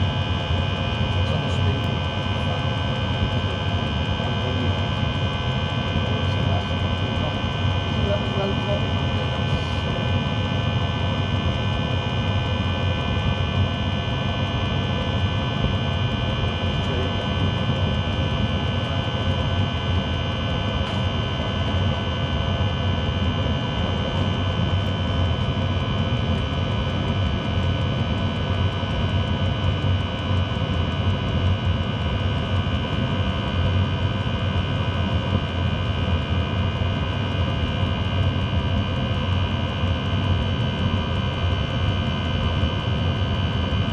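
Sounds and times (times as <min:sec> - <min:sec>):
diesel air heater roaring: 0:00.0 - 0:43.9.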